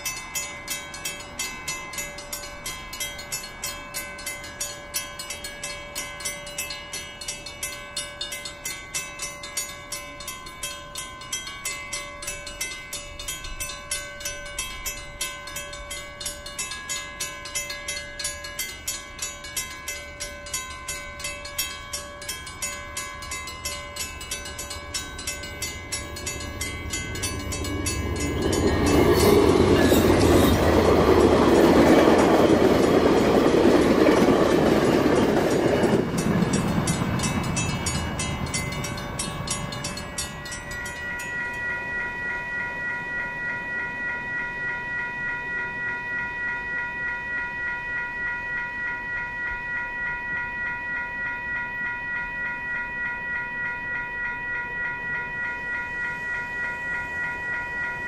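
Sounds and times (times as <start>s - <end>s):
crossing warning bell clanging: 0.0s - 58.0s
train passing rumble: 8.6s - 58.0s.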